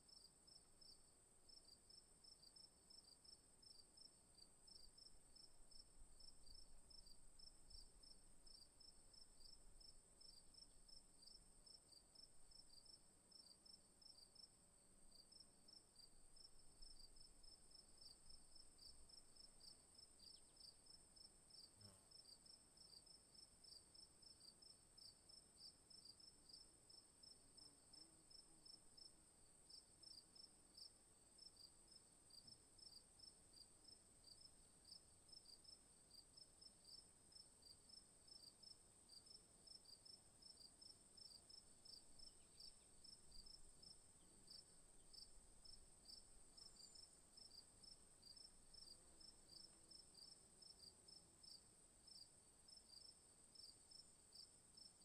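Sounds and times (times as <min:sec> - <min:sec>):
insect high continuous trill: 0:00.0 - 0:55.0.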